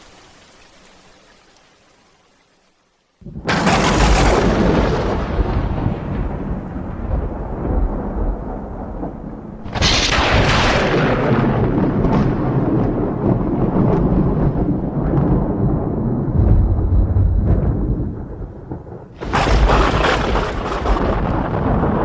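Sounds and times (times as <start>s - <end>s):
thunder crack and rolling rumble: 3.2s - 22.0s.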